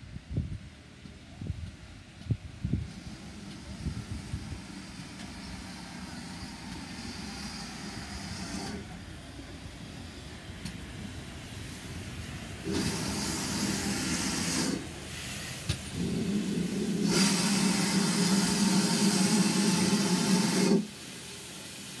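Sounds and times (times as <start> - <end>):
steam hissing: 1.8 - 22.0.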